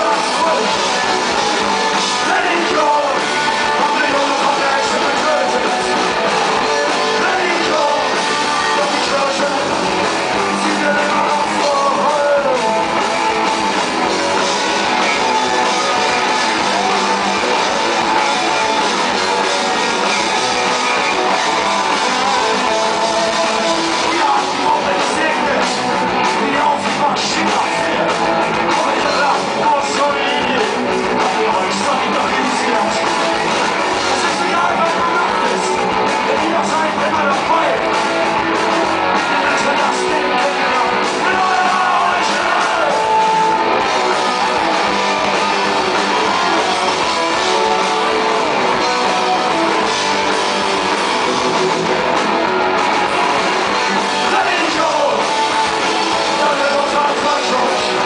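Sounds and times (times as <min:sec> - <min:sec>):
person singing: 0:00.0 - 0:13.6, 0:14.4 - 0:38.0, 0:39.1 - 0:52.0, 0:52.9 - 0:58.0
electric guitar: 0:00.0 - 0:58.0
punk rock band playing live: 0:00.0 - 0:58.0.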